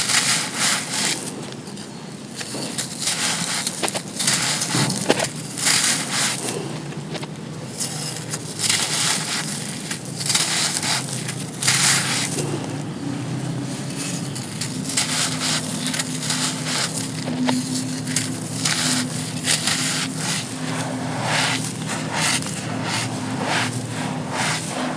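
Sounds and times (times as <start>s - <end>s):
dry sand crunching: 0.0s - 24.9s.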